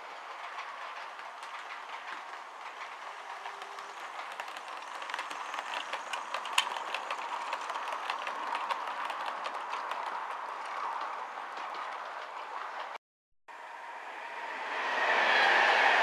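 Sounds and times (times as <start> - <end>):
model train whirring: 0.0 - 12.9
wheels clicking over track: 0.0 - 13.0.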